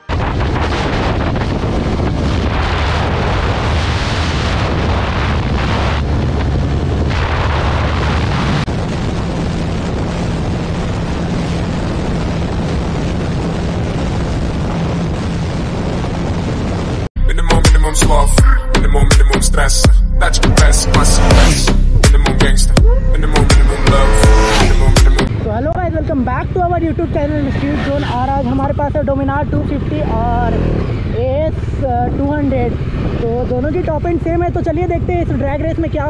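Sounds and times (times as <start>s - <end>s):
motorcycle engine at speed: 0.0s - 17.0s, 20.5s - 21.9s, 23.2s - 36.0s
wind rush on microphone: 0.0s - 17.2s, 22.7s - 36.0s.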